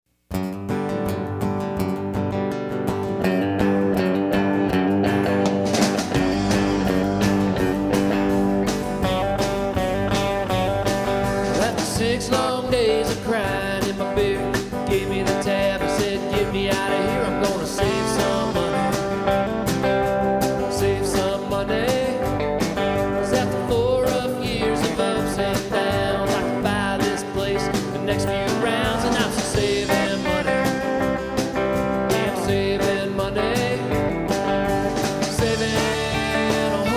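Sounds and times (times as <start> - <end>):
country song with guitar and singing: 0.3 - 36.9.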